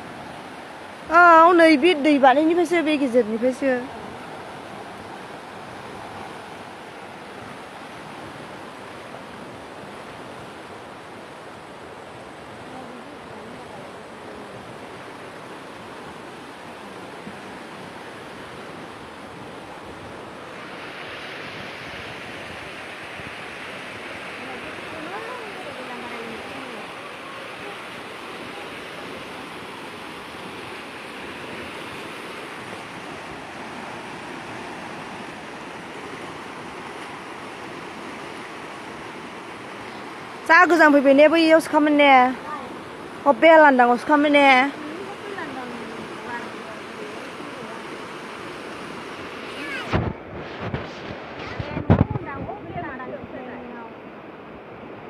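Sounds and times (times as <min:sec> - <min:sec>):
rushing flood river: 0:00.0 - 0:55.0.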